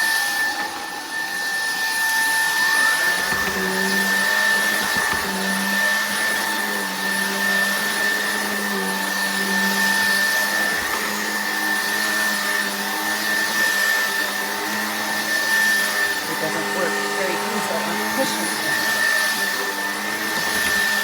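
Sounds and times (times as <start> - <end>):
stick vacuum running: 0.0 - 21.0.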